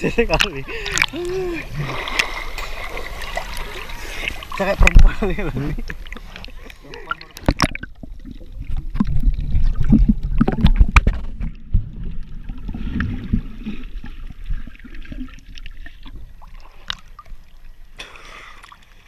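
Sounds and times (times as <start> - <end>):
underwater rumble of water: 0.0 - 18.0.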